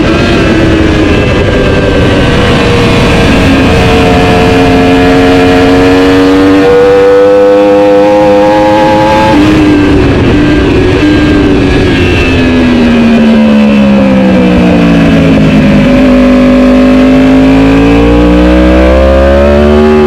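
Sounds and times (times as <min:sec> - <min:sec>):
superbike engine running hard: 0:00.0 - 0:20.0
wind and road rush: 0:00.0 - 0:20.0.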